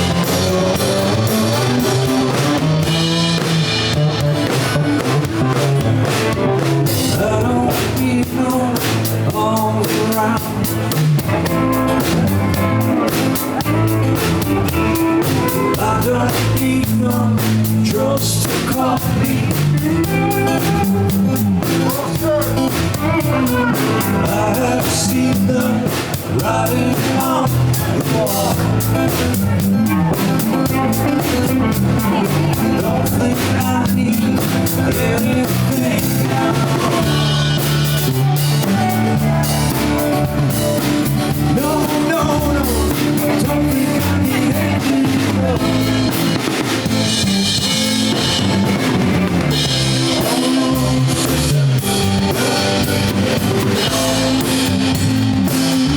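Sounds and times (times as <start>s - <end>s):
drum kit beat: 0.0s - 55.9s
guitar: 0.0s - 55.9s
person singing: 0.0s - 55.9s.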